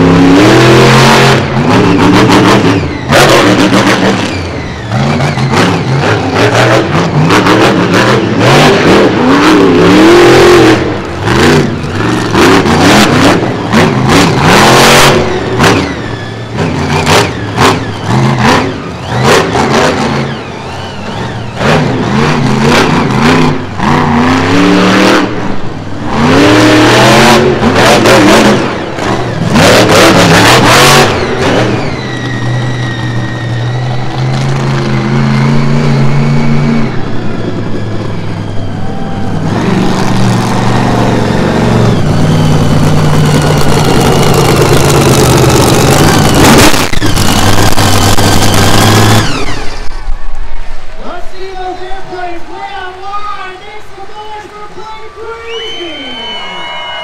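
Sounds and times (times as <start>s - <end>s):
truck engine revving: 0.0s - 54.6s.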